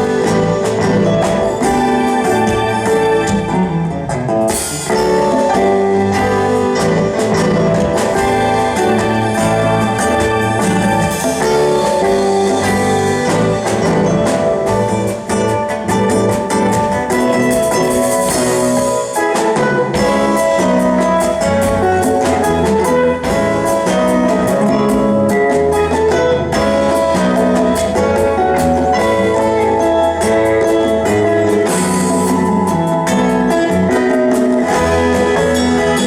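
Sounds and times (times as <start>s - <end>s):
bass: 0.0s - 36.0s
drum kit beat: 0.0s - 36.0s
guitar: 0.0s - 36.0s
keyboard: 0.0s - 36.0s.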